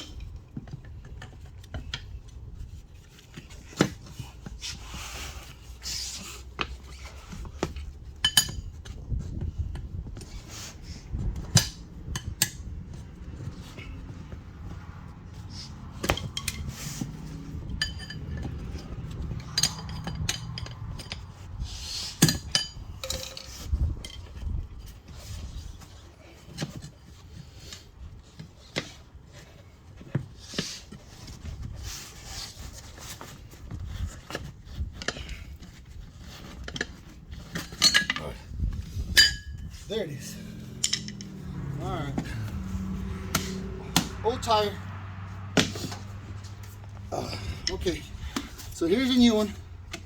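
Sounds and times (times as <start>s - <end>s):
tire irons clanking on wheel rim: 0.0s - 50.0s.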